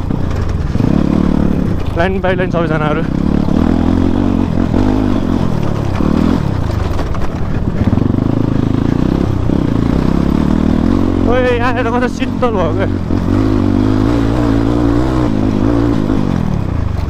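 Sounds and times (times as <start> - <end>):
motorcycle engine running: 0.0 - 17.0
motorcycle rattling: 0.0 - 17.0.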